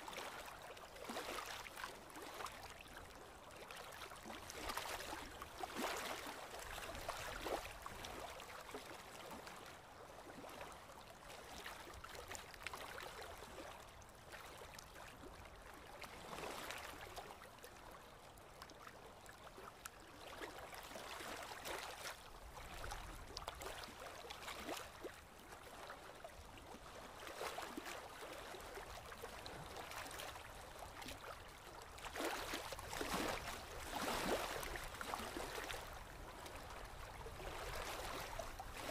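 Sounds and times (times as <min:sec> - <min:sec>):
waves lapping against seawall: 0:00.0 - 0:38.9.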